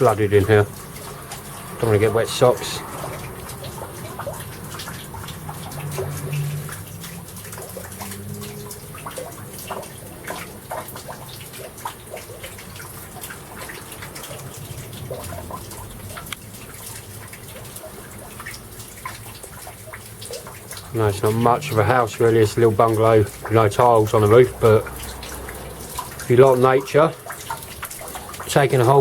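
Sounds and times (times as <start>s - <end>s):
water dripping and splashing: 0.0s - 29.0s.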